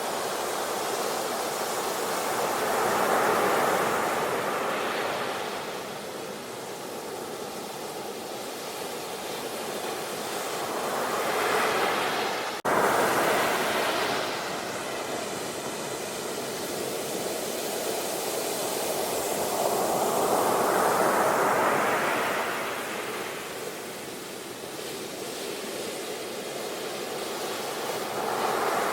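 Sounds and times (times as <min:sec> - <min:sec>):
sea waves washing in: 0:00.0 - 0:28.9.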